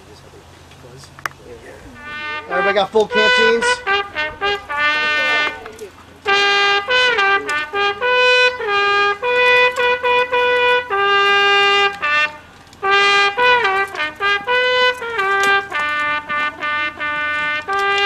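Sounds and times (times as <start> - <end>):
bugle call: 1.8 - 18.0.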